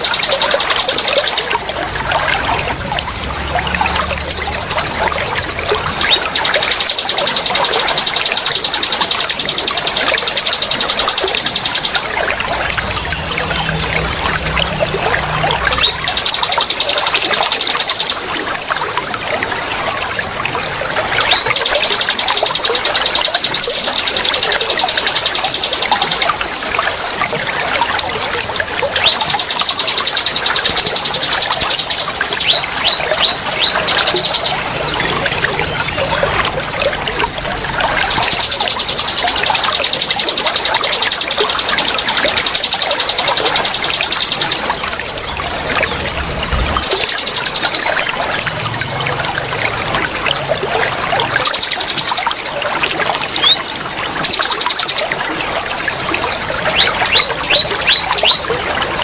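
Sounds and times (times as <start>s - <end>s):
trickling water: 0.0s - 59.0s.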